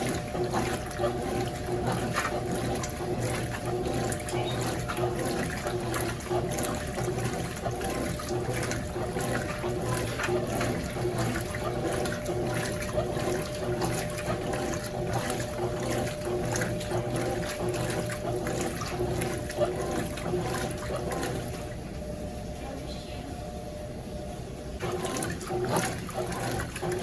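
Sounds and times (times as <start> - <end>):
washing machine motor hum: 0.0 - 27.0
water sloshing in washing machine: 0.0 - 27.0.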